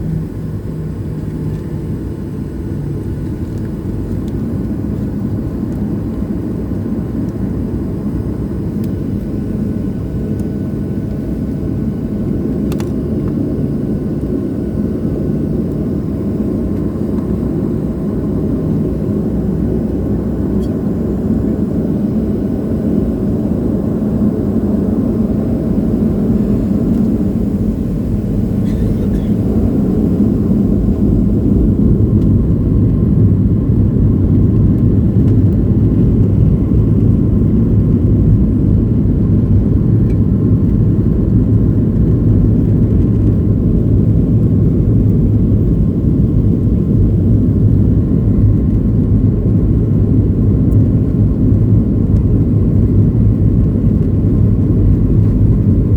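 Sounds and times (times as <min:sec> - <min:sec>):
jet engines rumbling: 0:00.0 - 0:55.9.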